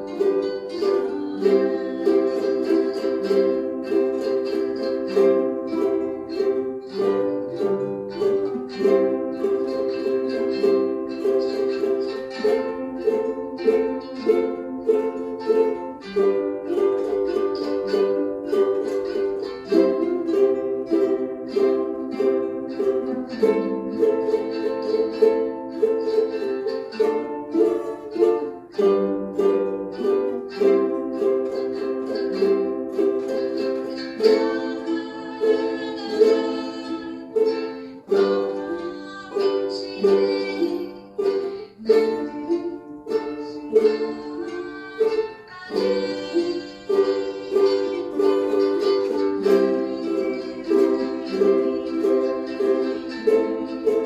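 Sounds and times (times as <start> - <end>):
ukulele strumming chords: 0.0 - 54.0.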